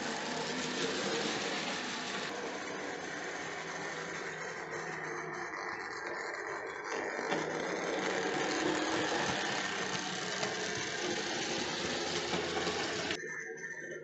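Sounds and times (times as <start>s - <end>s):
model train whirring and rattling: 0.0s - 13.2s.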